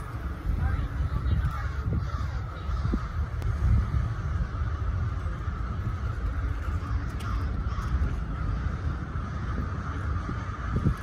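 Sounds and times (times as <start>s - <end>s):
crows cawing: 0.0s - 11.0s
low rumble: 0.0s - 11.0s.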